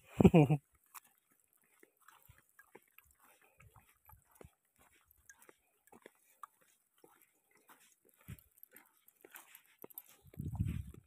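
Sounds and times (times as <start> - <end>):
footsteps on dry grass: 1.0 - 11.0.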